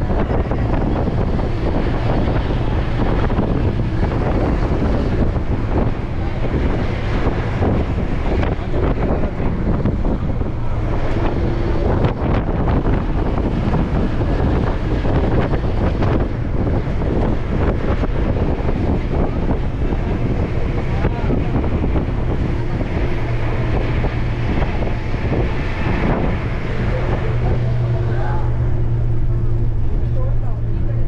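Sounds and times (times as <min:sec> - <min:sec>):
vehicle running noise: 0:00.0 - 0:31.0
wind buffeting microphone: 0:00.0 - 0:31.0.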